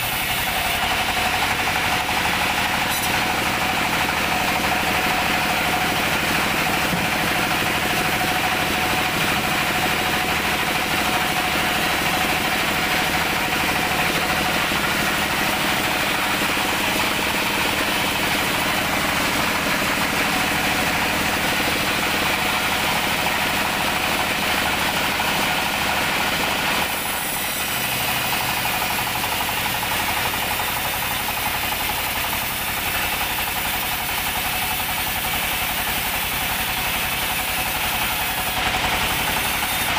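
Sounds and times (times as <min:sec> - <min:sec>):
engine knocking evenly: 0:00.0 - 0:39.9
whir of machinery: 0:00.0 - 0:39.9.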